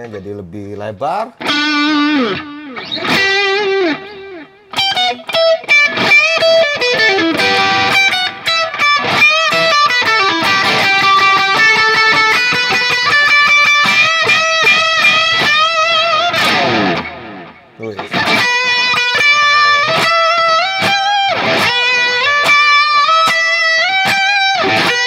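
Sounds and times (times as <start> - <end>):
electric guitar lead line: 1.4 - 25.0.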